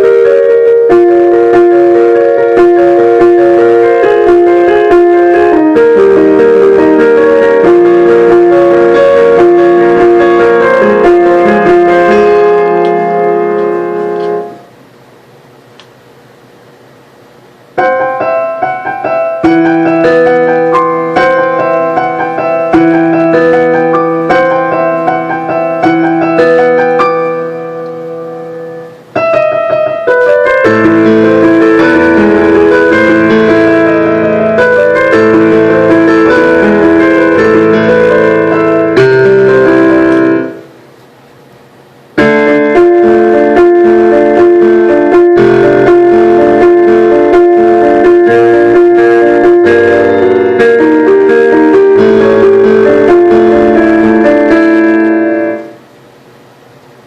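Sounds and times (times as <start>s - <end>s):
keyboard playing song snippets: 0.0s - 14.8s, 17.6s - 57.0s.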